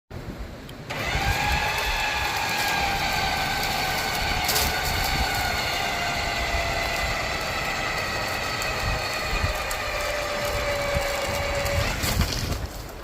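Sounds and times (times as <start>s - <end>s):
engine-driven machinery running: 0.8s - 12.6s.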